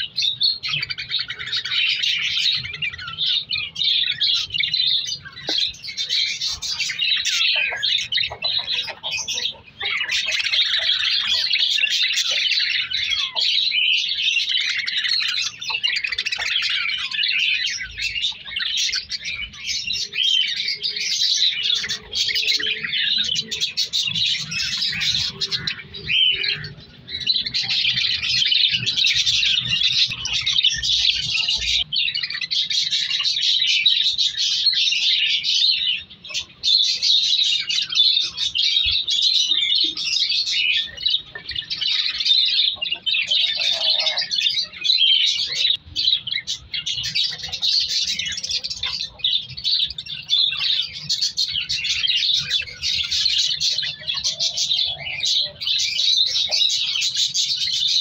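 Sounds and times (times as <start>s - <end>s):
budgies warbling chirps: 0.0s - 58.0s.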